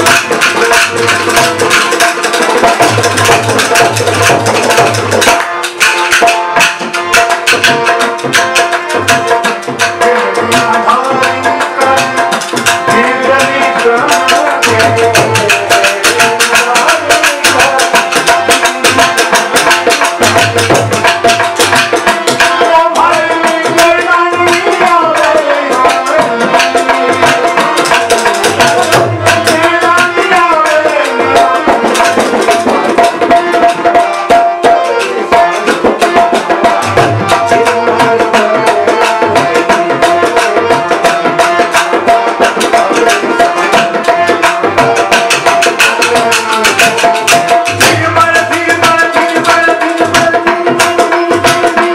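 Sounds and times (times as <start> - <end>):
hand drum fast beat: 0.0 - 51.9
harmonium holding notes: 0.0 - 51.9.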